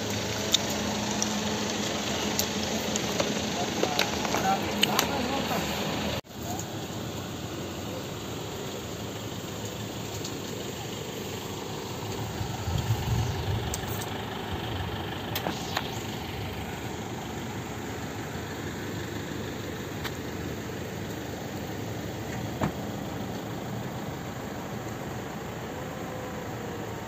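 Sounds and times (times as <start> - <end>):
steady engine drone: 0.0 - 27.0.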